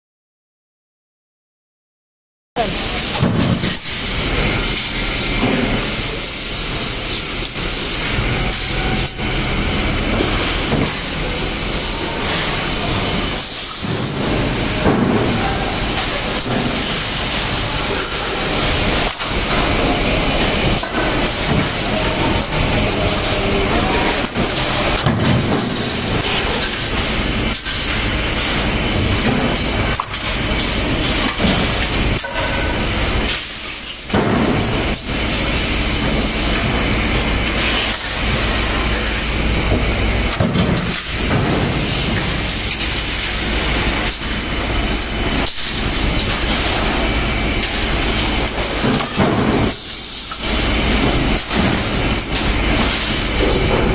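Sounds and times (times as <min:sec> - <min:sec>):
stamping press machinery running: 0:02.6 - 0:53.9.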